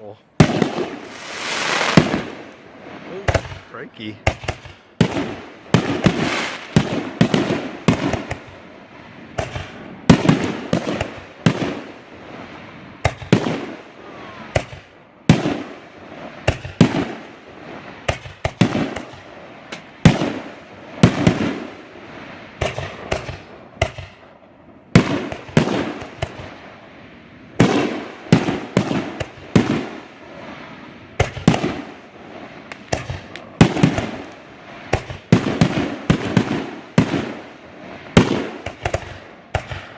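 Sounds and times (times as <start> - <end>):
fireworks banging: 0.4 - 26.9, 27.5 - 39.9.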